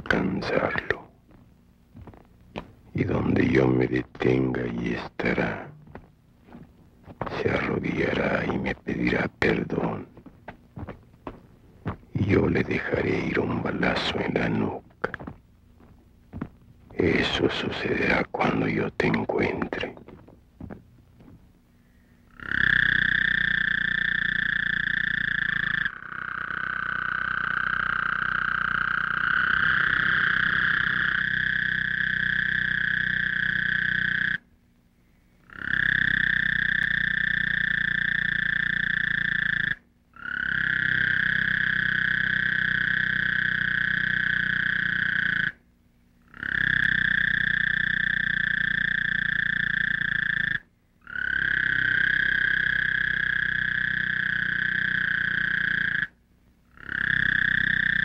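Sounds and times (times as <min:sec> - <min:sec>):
frogs trilling: 0:00.0 - 0:58.0
low hum: 0:00.0 - 0:58.0.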